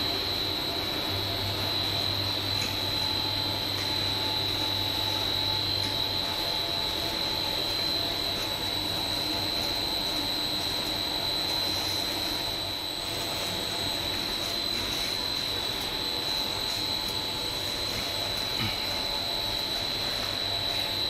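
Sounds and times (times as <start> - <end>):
factory machine whine: 0.0 - 21.0
low machine hum: 0.0 - 21.0.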